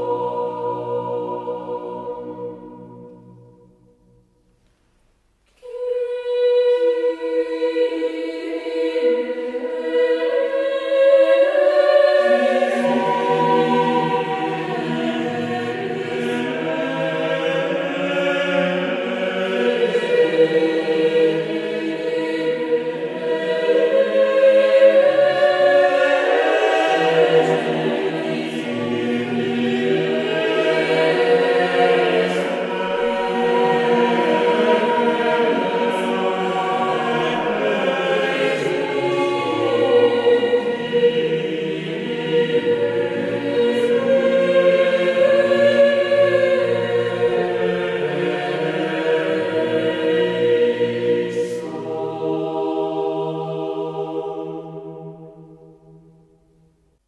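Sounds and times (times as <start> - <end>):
choir singing held chords: 0.0 - 4.3, 5.6 - 56.7.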